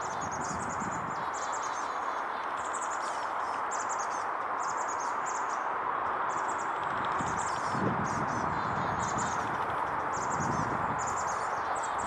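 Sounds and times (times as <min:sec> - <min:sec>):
songbirds chirping: 0:00.0 - 0:12.0
steady rushing noise: 0:00.0 - 0:12.0.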